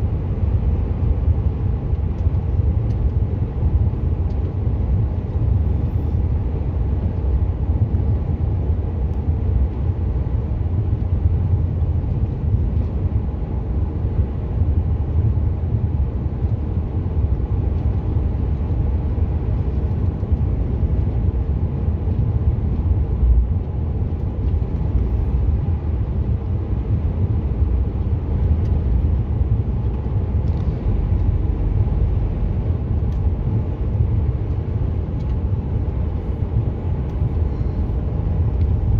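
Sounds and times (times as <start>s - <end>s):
truck engine rumble: 0.0s - 38.9s
tyres on road: 0.0s - 38.9s.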